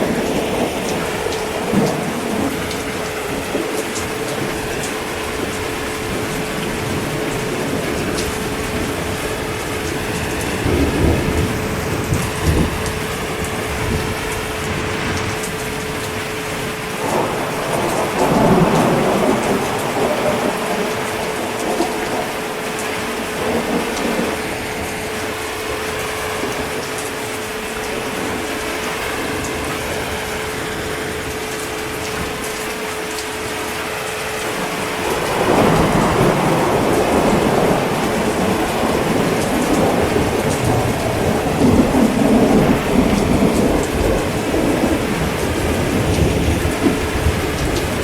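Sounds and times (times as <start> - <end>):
heavy rain: 0.0 - 48.0
thunder rumbling: 0.0 - 48.0.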